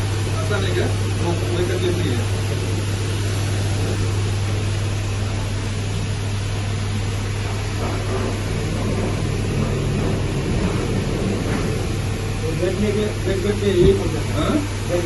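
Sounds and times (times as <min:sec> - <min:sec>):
sawmill machinery humming: 0:00.0 - 0:15.0.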